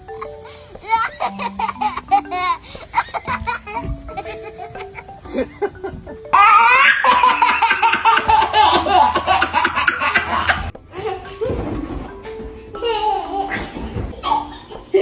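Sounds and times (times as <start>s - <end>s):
background music: 0.0s - 15.0s
baby laughing: 0.2s - 11.6s, 12.8s - 15.0s.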